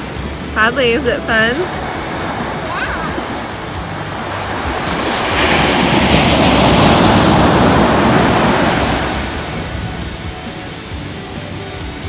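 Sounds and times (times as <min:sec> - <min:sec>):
wave breaking on shore: 0:00.0 - 0:12.0.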